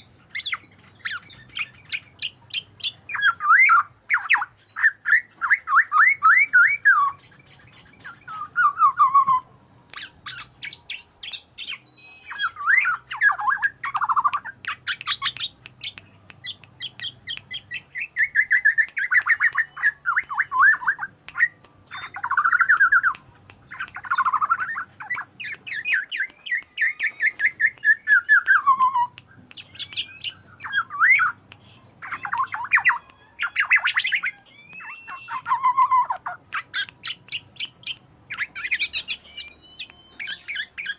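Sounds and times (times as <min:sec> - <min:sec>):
bird singing chattering notes: 0:00.0 - 0:40.9.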